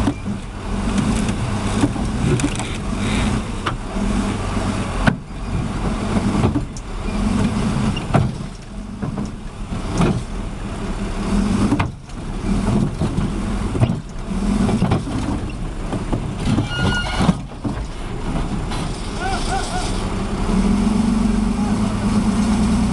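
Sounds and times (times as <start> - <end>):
vehicle engine rising and falling: 0.0 - 22.9.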